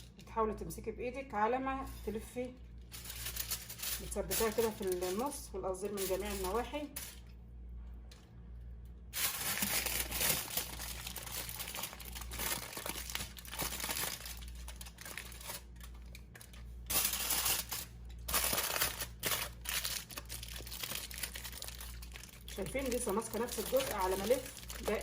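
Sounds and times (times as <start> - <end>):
aluminium foil crinkling: 1.8 - 7.3, 9.2 - 25.0.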